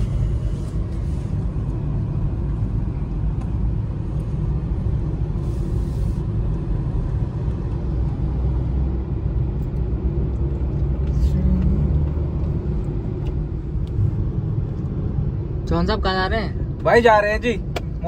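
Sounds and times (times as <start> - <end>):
car cabin engine and tyre noise: 0.0 - 18.0.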